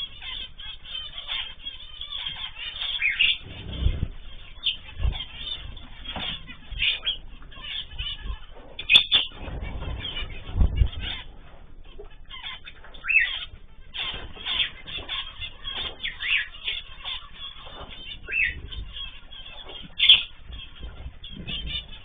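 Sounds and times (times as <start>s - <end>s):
cage birds chirping: 0.0s - 22.0s
wings flapping: 2.4s - 22.0s.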